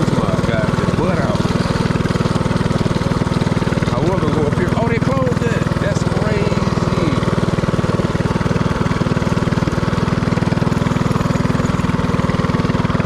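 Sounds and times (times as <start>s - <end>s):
mini-bike engine running: 0.0s - 13.0s.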